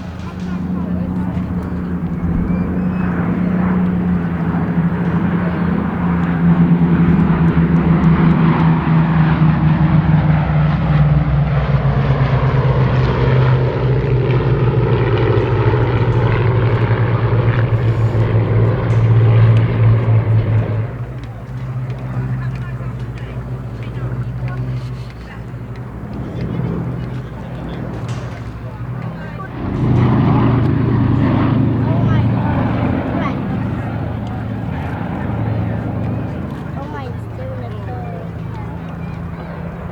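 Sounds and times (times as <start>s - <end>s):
propeller aircraft engines droning: 0.0s - 39.9s.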